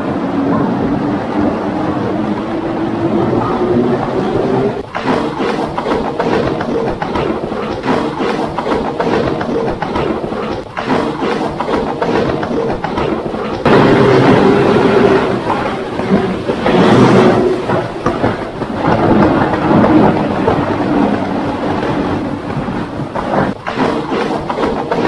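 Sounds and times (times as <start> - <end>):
water rushing down slide: 0.0 - 25.0.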